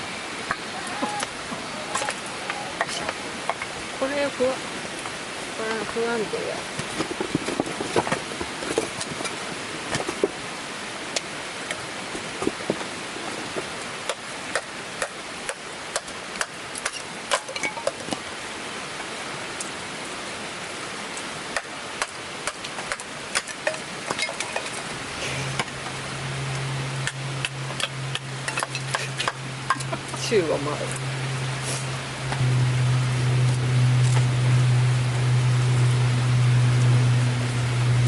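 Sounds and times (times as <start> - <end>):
low steady hum: 0.0 - 38.0
steady rain: 0.0 - 38.0.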